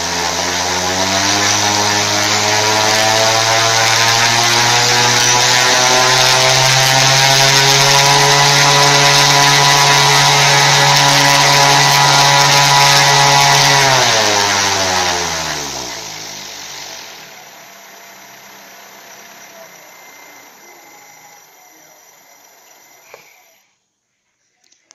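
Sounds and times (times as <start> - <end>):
electric motor and propeller whine: 0.0 - 23.6.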